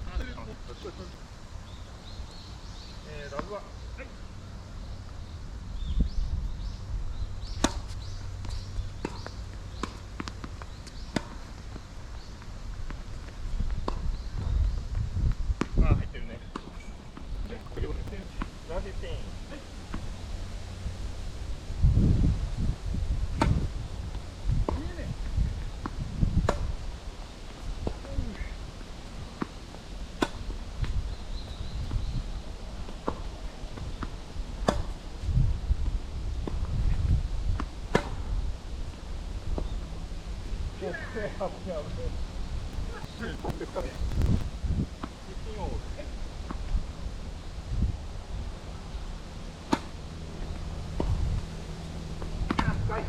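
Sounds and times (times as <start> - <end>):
wind rumble on microphone: 4.4 - 9.8, 10.7 - 53.0.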